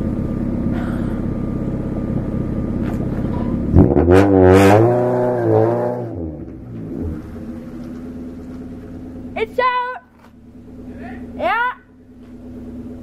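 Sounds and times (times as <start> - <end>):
car pulling away: 0.0 - 9.4, 10.2 - 13.0
car engine running: 0.0 - 13.0.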